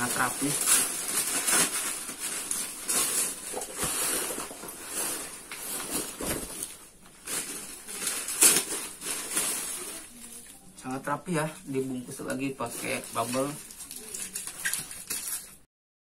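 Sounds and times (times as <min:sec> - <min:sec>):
bubble wrap crinkling: 0:00.0 - 0:15.7.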